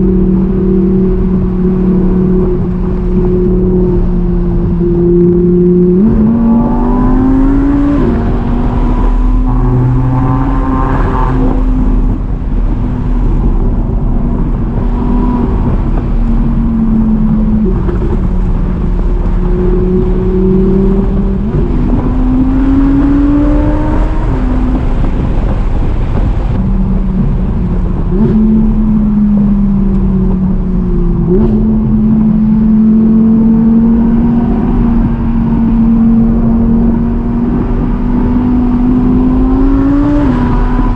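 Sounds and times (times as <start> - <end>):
car engine accelerating: 0.0 - 40.9
road noise: 0.0 - 40.9.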